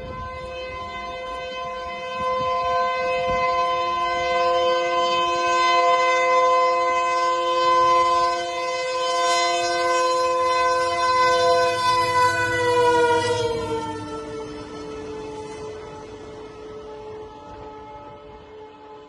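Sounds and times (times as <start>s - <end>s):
locomotive air horn blast: 0.0s - 19.0s.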